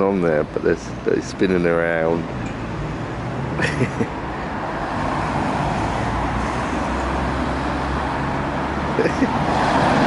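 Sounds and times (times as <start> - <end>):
road traffic rumble: 0.0 - 10.0
vehicle passing: 1.9 - 10.0.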